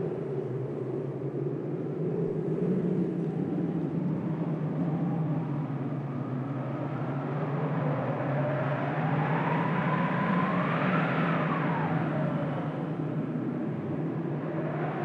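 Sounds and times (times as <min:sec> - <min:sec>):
rushing wind: 0:00.0 - 0:15.0
whistling howl of wind: 0:00.0 - 0:15.0.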